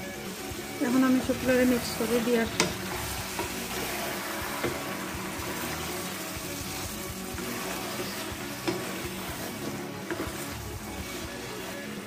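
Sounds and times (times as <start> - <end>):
food sizzling in pot: 0.0 - 12.0
wooden spatula scraping pot: 0.8 - 12.0.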